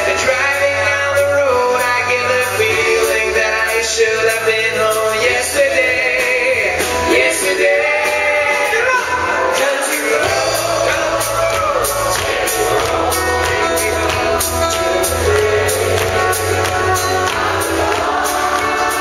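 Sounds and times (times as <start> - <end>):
acoustic guitar: 0.0 - 19.0
bass guitar: 0.0 - 19.0
man singing: 0.0 - 19.0
steady drum beat: 0.0 - 19.0.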